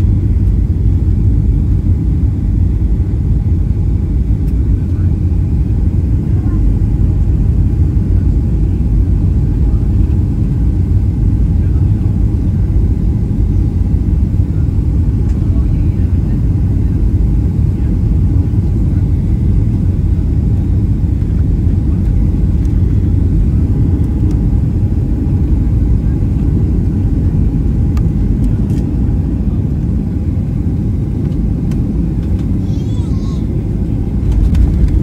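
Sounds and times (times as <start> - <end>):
jet cabin engine and airflow rumble: 0.0 - 35.0.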